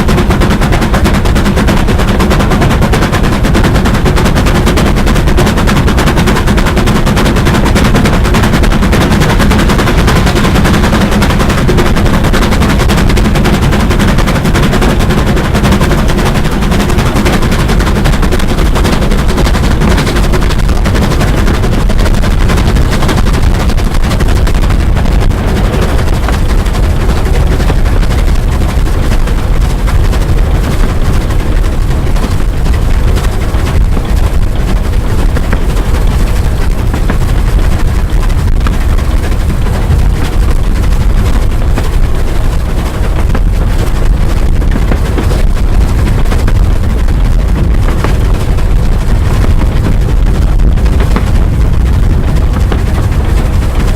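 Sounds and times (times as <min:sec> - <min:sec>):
locomotive running noise: 0:00.0 - 0:53.9
steam locomotive exhaust beats: 0:00.0 - 0:53.9.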